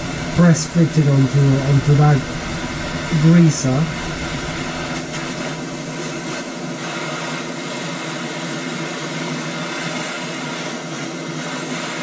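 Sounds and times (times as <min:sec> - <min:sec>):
blowtorch flame hissing: 0:00.0 - 0:12.0.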